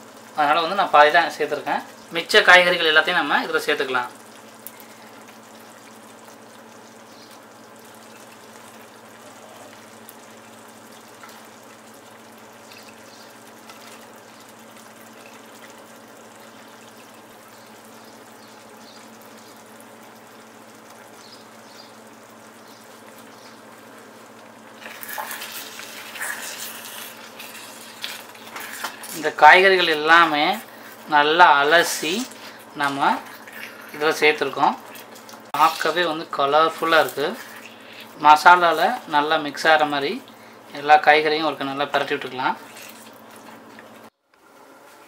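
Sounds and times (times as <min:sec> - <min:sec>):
gravy sizzling in a pan: 0:00.0 - 0:45.0.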